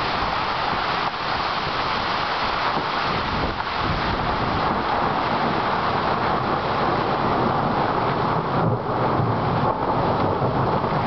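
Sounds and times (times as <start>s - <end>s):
heavy rain through trees: 0.0s - 11.0s
wind buffeting microphone: 0.0s - 11.0s.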